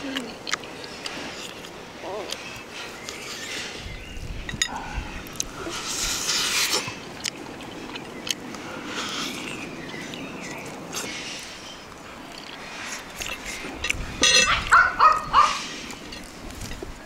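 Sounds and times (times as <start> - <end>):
chewing and crunching: 0.0 - 3.5, 4.4 - 17.0.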